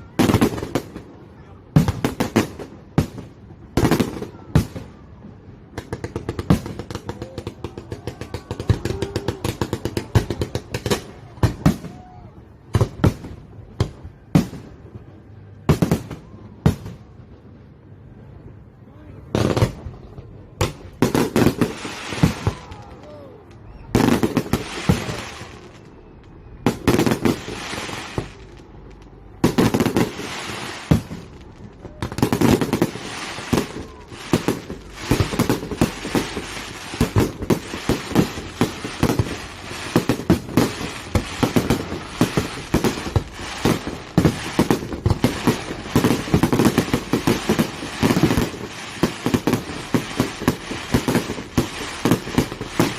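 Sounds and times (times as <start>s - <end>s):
rapid fireworks barrage crackling: 0.0s - 18.2s, 19.2s - 52.9s
fireworks bursting with bangs: 0.0s - 18.3s, 19.2s - 52.9s.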